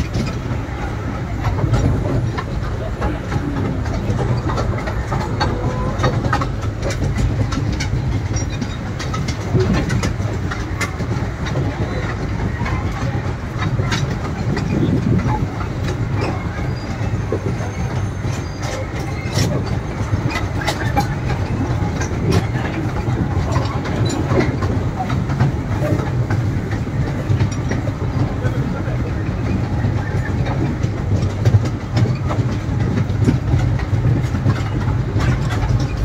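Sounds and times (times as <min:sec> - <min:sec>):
toy train rumble: 0:00.0 - 0:36.0
train wheels clicking: 0:00.0 - 0:36.0.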